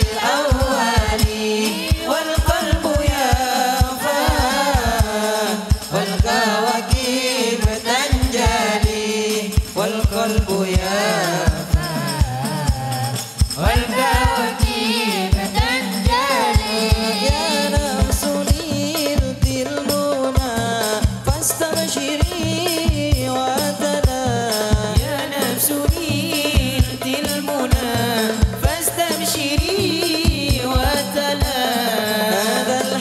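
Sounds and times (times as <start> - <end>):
frame drums beating: 0.0 - 33.0
ornamented vocal singing: 0.0 - 33.0.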